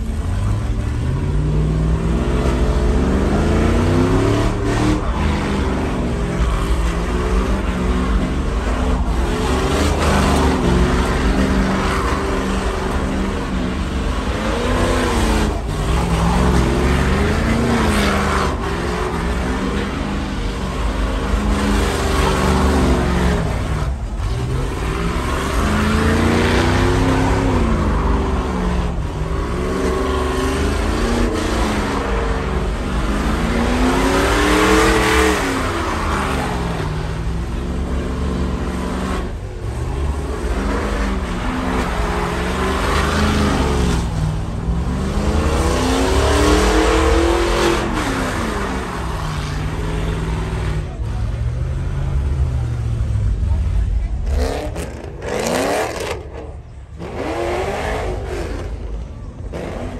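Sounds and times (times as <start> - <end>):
truck engine revving: 0.0 - 59.9
tyres spinning on asphalt: 0.0 - 59.9.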